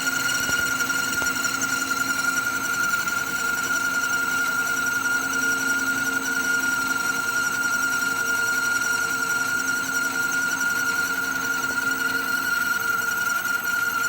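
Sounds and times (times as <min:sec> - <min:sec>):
machine tool motor whine: 0:00.0 - 0:14.0.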